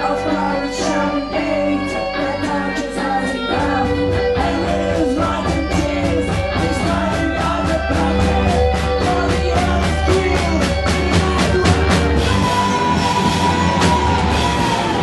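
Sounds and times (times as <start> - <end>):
drums: 0.0 - 15.0
live rock band playing: 0.0 - 15.0.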